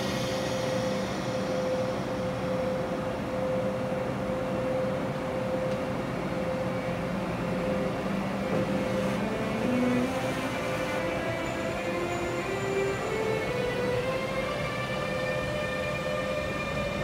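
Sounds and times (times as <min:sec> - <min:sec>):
electric locomotive hum: 0:00.0 - 0:17.0.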